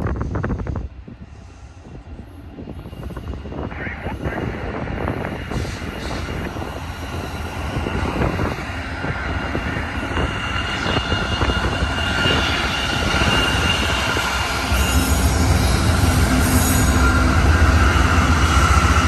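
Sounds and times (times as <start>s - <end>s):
freight train rumble: 0.0s - 19.0s
high steady squeal: 2.2s - 19.0s.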